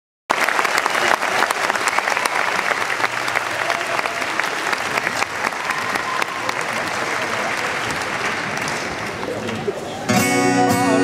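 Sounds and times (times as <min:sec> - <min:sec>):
audience applauding: 0:00.3 - 0:10.1.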